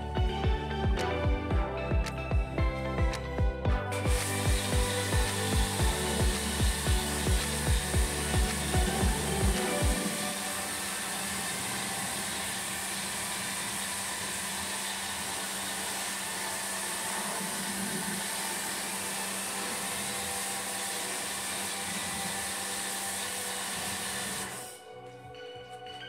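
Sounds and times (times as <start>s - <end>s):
pressure washer motor hum: 3.2s - 24.8s
water jet hissing: 3.9s - 24.8s.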